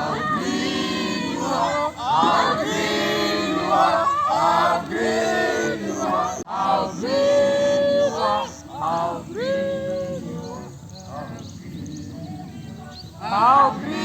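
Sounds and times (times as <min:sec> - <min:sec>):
group of people singing and chanting: 0:00.0 - 0:14.0.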